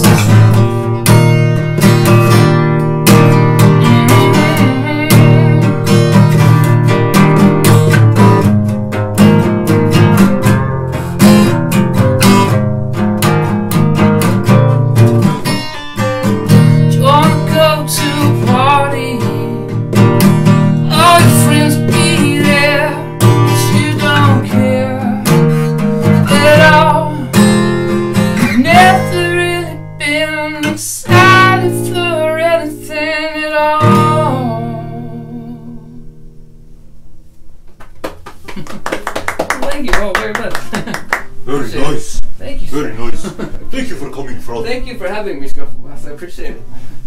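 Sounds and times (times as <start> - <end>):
acoustic guitar strummed: 0.0 - 37.8.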